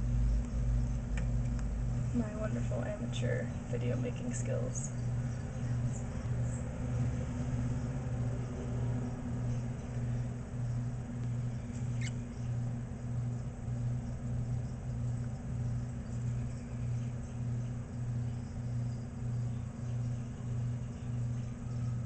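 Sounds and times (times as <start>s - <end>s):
pulsing low mechanical hum: 0.0s - 22.0s.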